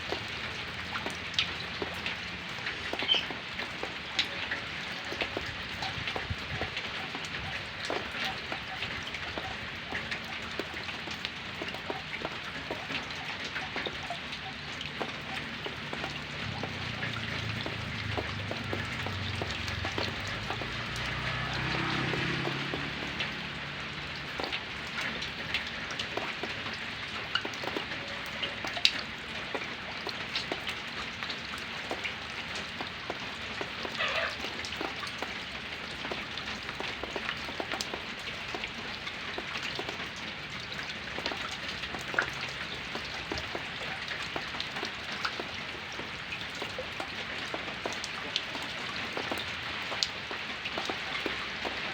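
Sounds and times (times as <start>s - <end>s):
rain falling: 0.0s - 51.9s
raindrops pattering on surfaces: 0.0s - 51.9s.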